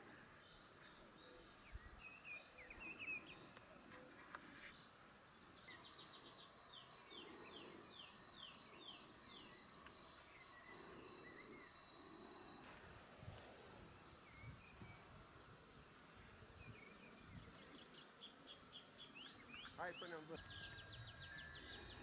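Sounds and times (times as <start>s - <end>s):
crickets trilling: 0.0s - 22.0s
songbird singing: 0.0s - 22.0s.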